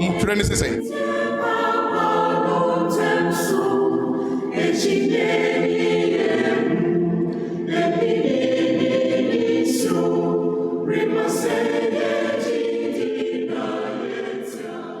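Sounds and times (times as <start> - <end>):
choir singing in parts: 0.0 - 15.0.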